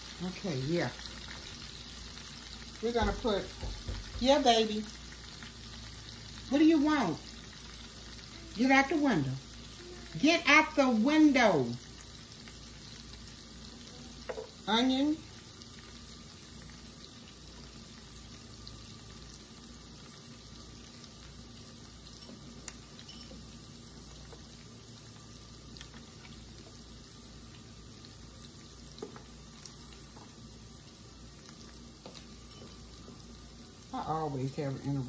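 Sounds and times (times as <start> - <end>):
faint sizzle in a skillet: 0.0 - 35.0.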